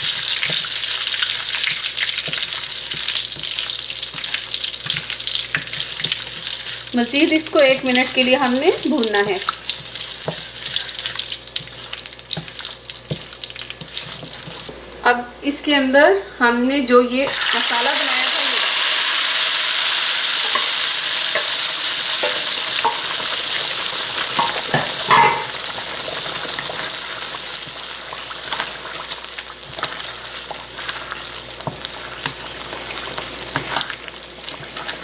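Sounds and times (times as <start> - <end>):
masala sizzling in hot oil: 0.0 - 14.8, 17.2 - 35.0.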